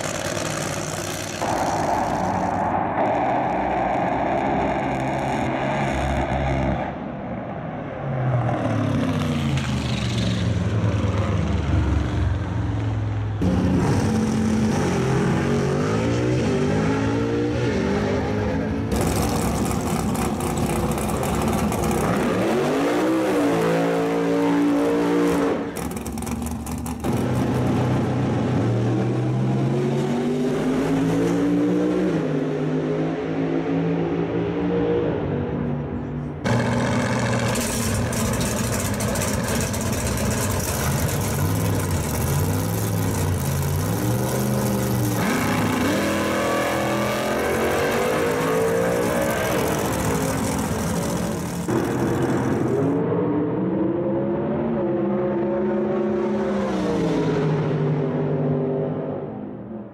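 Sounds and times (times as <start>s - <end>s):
racing car engines revving: 0.0s - 59.8s.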